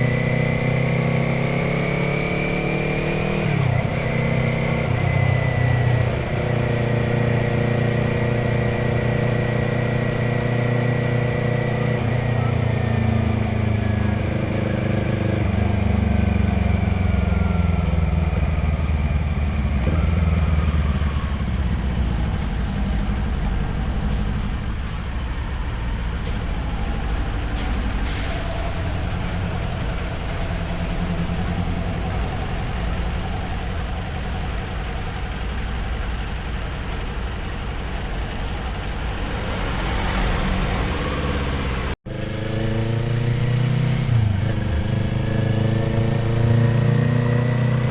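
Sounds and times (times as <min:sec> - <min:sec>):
motorcycle engine and exhaust: 0:00.0 - 0:47.9
wind and road noise: 0:00.0 - 0:47.9.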